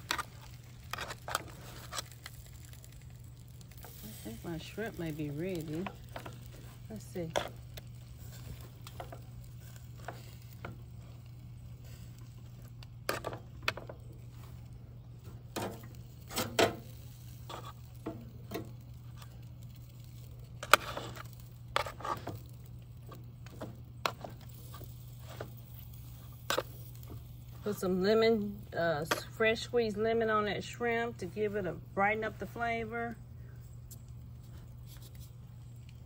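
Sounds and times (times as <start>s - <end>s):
metal tongs scraping grill grate: 0.0s - 14.5s, 15.5s - 30.2s
steady low hum: 0.0s - 36.0s.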